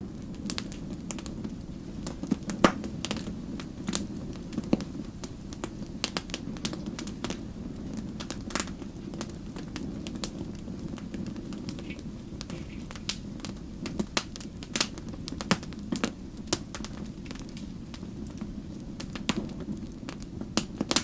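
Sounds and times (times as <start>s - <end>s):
burning logs crackling and popping: 0.0s - 21.0s
campfire flame rumble: 0.0s - 21.0s.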